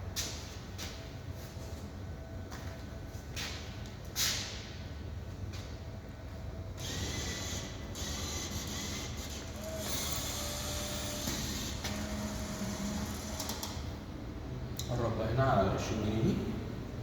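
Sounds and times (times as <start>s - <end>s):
vending machine hum and whir: 0.0s - 17.0s.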